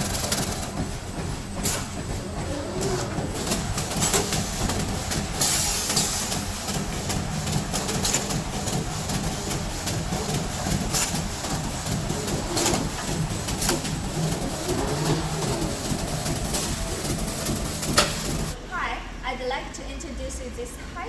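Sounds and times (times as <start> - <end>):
machine hiss: 0.0 - 18.6
machine mechanical drone: 0.0 - 18.6
machine parts clacking: 1.5 - 18.6.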